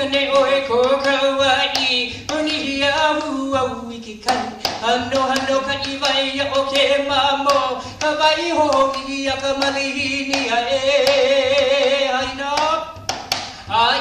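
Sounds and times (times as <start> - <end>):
gourd drum strikes: 0.0 - 14.0.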